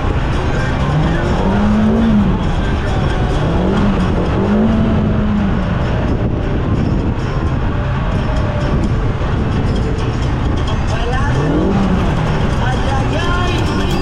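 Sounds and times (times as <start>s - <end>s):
vehicle engine under throttle: 0.0s - 8.2s, 9.0s - 14.0s
heavy driving rumble: 0.0s - 14.0s.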